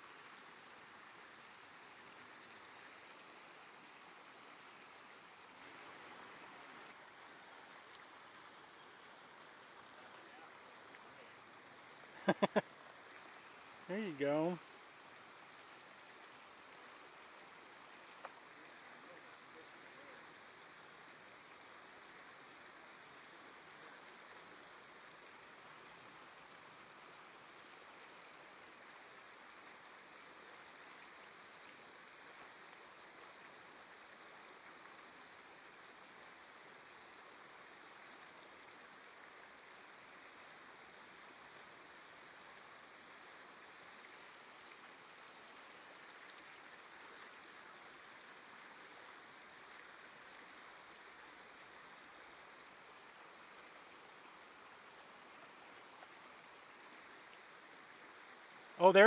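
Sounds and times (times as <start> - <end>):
creek running over rocks: 0.0 - 59.0.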